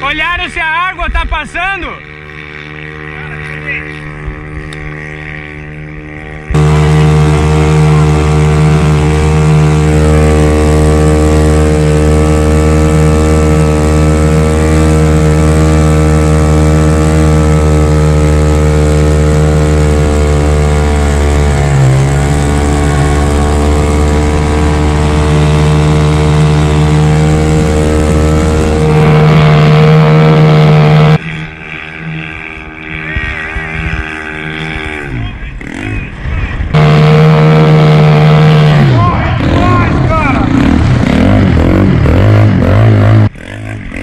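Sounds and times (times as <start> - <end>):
speedboat engine running hard: 0.0 - 44.0.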